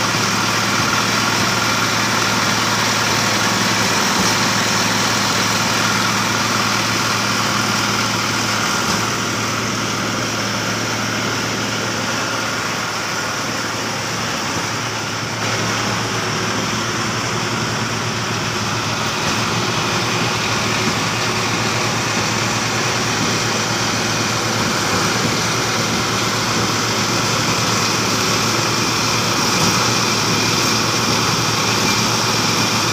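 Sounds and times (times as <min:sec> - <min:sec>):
concrete pump engine running: 0:00.0 - 0:32.9.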